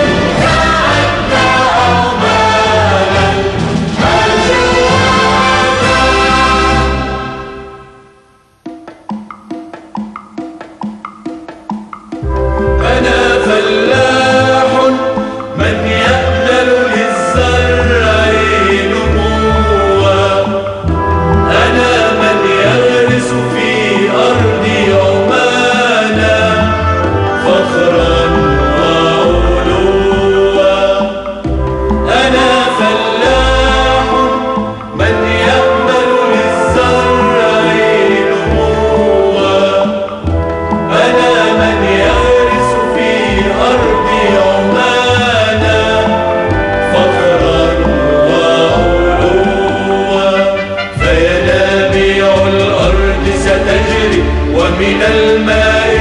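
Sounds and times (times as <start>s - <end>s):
choir singing an anthem: 0.0s - 8.1s, 12.5s - 56.0s
instrumental accompaniment: 0.0s - 56.0s.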